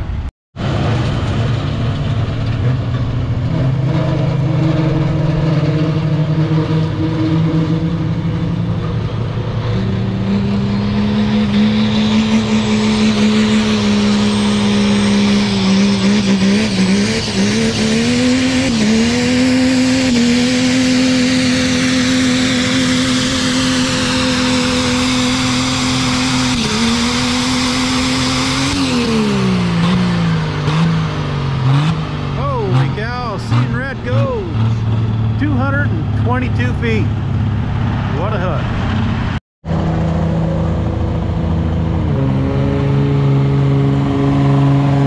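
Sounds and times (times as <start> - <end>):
truck engine under heavy load: 0.0 - 45.0.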